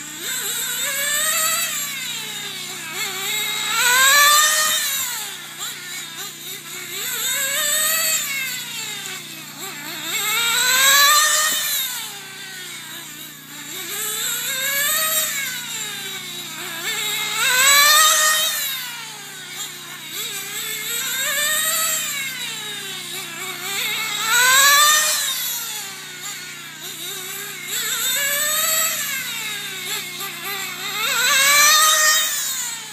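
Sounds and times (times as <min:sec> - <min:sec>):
small nitro engine whining: 0:00.0 - 0:32.9.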